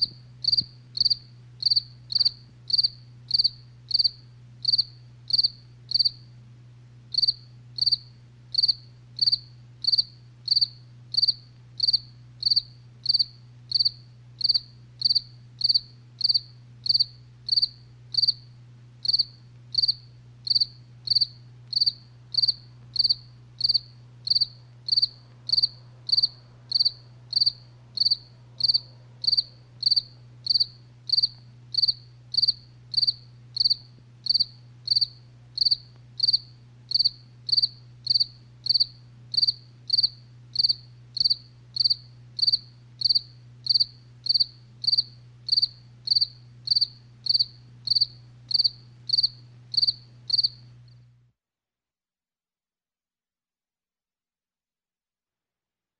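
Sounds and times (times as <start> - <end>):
cricket chirping: 0.0 - 6.3, 7.1 - 51.0.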